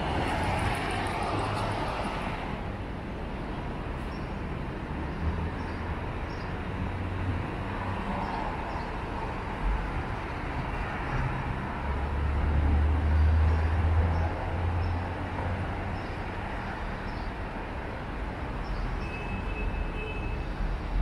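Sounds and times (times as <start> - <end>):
city street rumble with hiss: 0.0 - 21.0.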